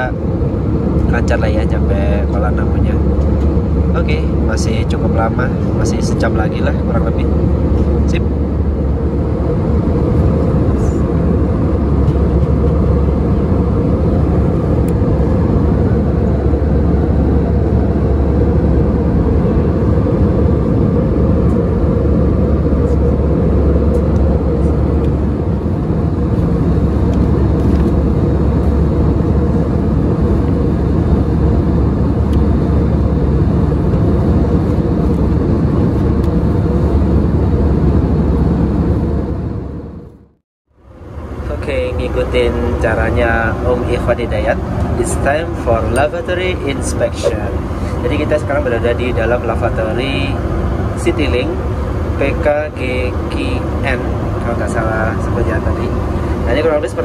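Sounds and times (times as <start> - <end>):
aircraft cabin roar: 0.0 - 57.0.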